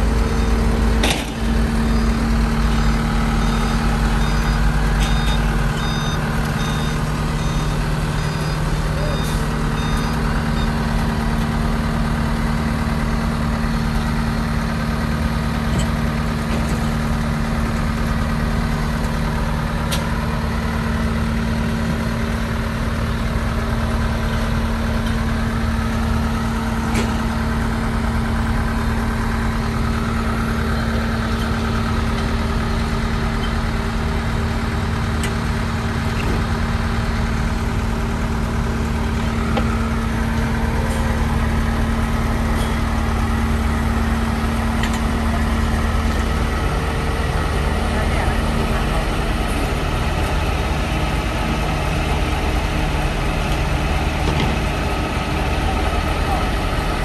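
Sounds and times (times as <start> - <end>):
road roller diesel engine: 0.0 - 57.0.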